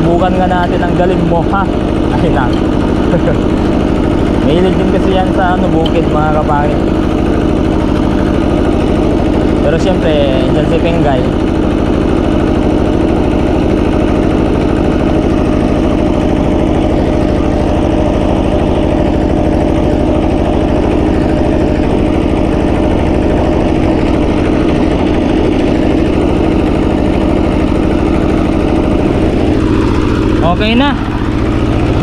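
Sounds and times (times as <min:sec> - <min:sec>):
hand tractor engine running: 0:00.0 - 0:32.0.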